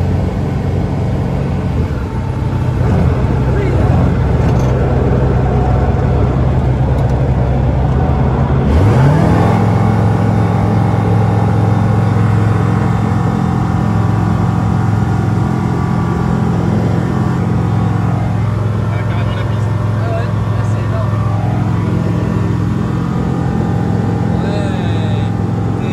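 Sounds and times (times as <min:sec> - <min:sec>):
aircraft engine droning: 0:00.0 - 0:25.9.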